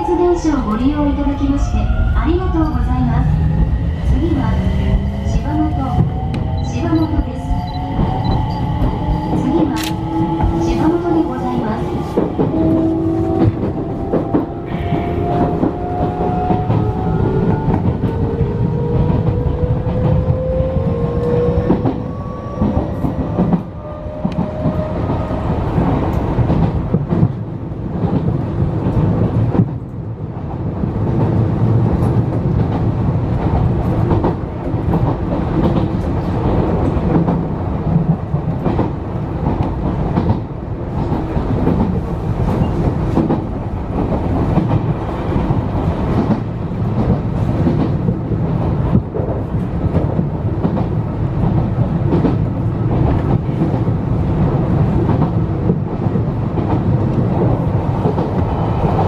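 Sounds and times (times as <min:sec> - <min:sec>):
wheels rumbling on rail: 0:00.0 - 0:59.0
rail joint clicks: 0:05.5 - 0:30.2, 0:31.1 - 0:59.0.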